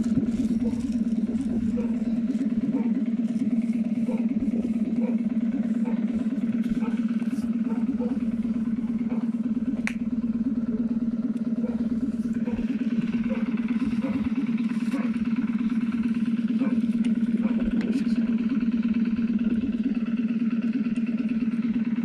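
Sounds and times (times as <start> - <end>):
train machinery humming: 0.0 - 22.0.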